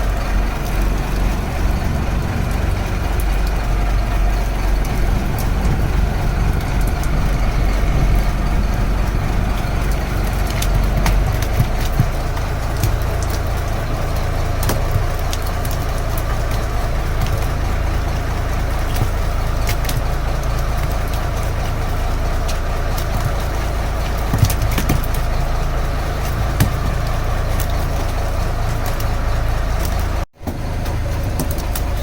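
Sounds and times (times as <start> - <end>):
boat engine idling: 0.0 - 32.0.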